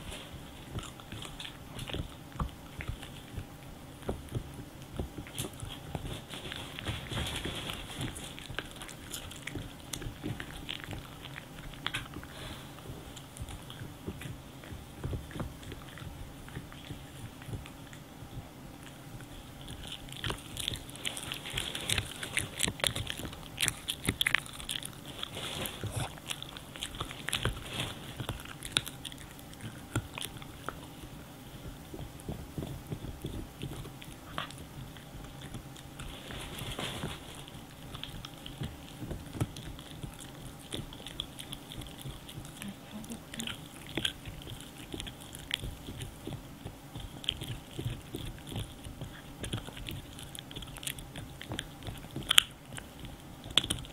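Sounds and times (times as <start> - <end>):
dog chewing hard chew: 0.0 - 53.9.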